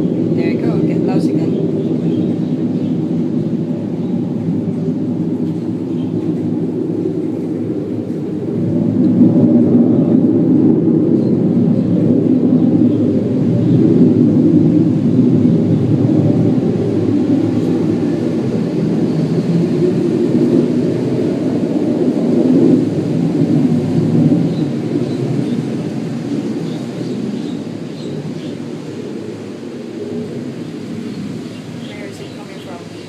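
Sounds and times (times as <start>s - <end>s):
low rumbling drone from sky: 0.0s - 33.0s.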